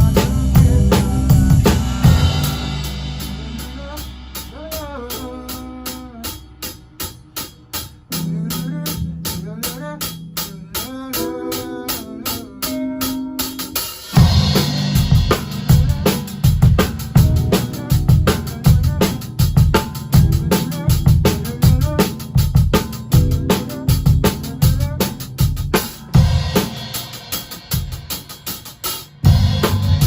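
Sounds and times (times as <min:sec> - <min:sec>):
organ-toned keyboard chords: 0:00.0 - 0:04.8, 0:05.4 - 0:30.0
rock band playing: 0:00.0 - 0:30.0.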